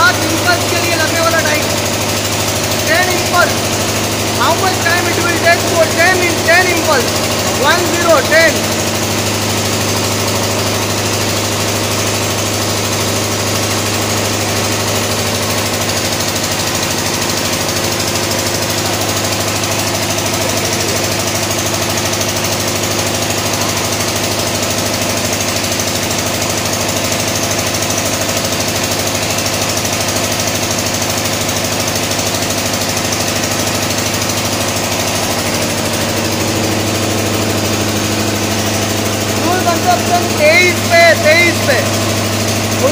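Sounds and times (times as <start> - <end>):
diesel engine running steadily: 0.0 - 42.9.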